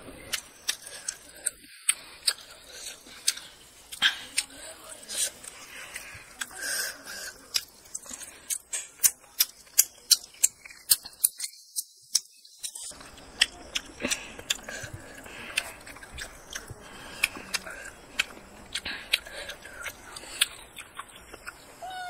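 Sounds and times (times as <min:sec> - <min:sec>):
child chewing and smacking: 0:00.0 - 0:22.0.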